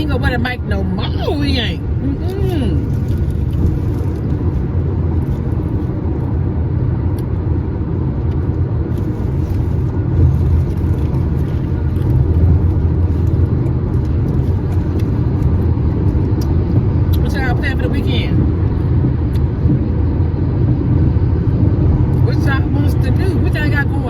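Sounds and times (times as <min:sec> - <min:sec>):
air conditioning running: 0:00.0 - 0:24.0
tyre road noise in car: 0:00.0 - 0:24.0.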